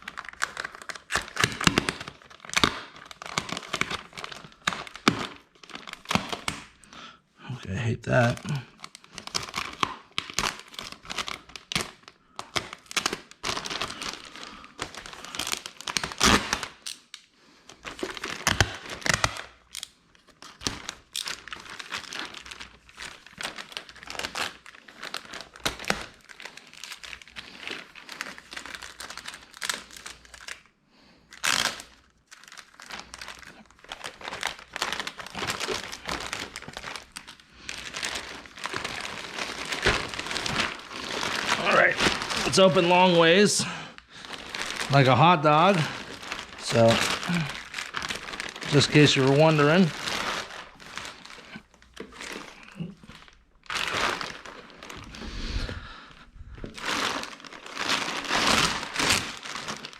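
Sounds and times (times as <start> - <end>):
plastic packaging crinkling: 0.0 - 7.0, 8.1 - 59.9.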